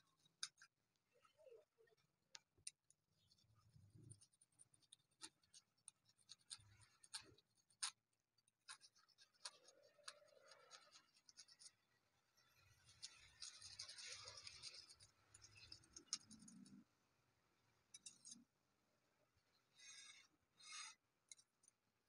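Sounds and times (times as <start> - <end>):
faint scratching and light taps: 0.0 - 16.9, 17.9 - 18.5, 19.8 - 21.8.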